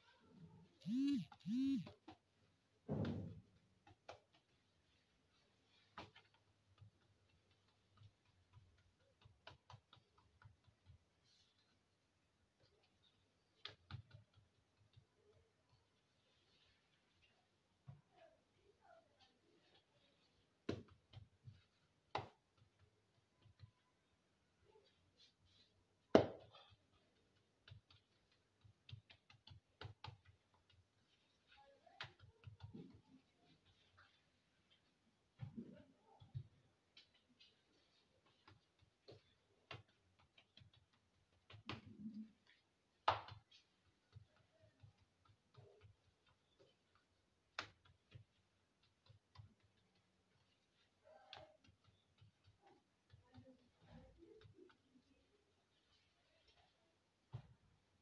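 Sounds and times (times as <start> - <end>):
hands patting dough: 1.9 - 18.1, 19.2 - 58.0.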